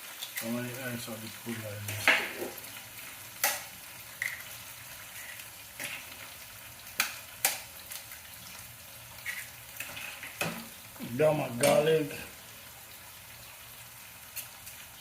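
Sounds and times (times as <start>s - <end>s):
eggs sizzling in a pan: 0.0s - 15.0s.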